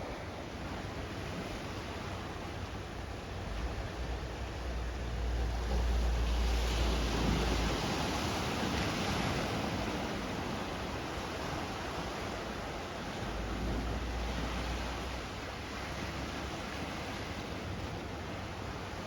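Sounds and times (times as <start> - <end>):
ocean surf washing in: 0.0 - 19.0
wind rumble on microphone: 0.0 - 19.0.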